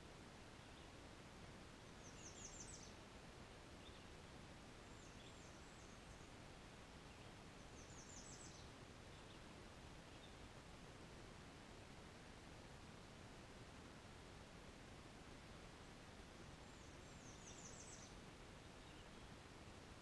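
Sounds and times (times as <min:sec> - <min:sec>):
songbird song: 0:00.0 - 0:20.0
steady low hiss: 0:00.0 - 0:20.0.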